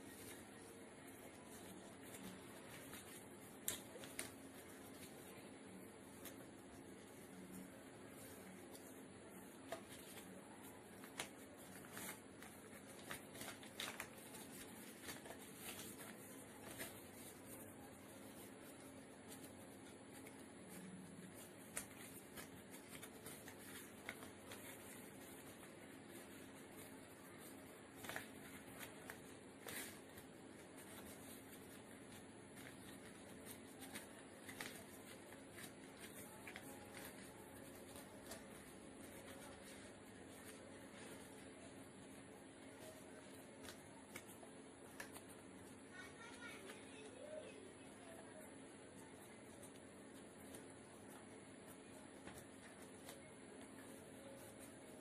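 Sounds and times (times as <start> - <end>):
paper rustling and crackling: 0.0 - 47.4, 48.0 - 55.0.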